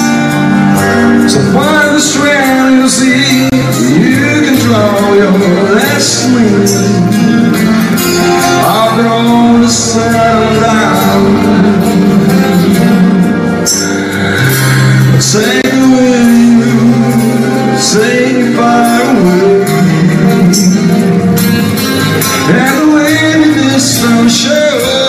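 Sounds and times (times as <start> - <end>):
acoustic guitars: 0.0 - 25.0
man singing: 0.0 - 25.0.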